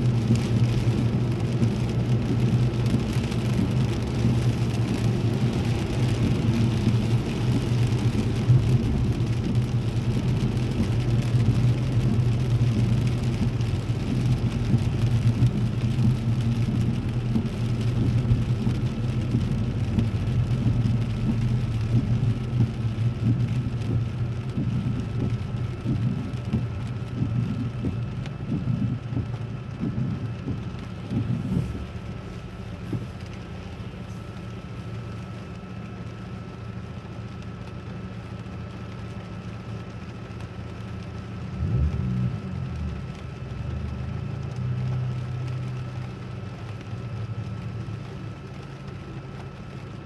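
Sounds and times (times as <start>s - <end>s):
engine and road rumble: 0.0s - 50.0s
rain on a car: 0.0s - 50.0s.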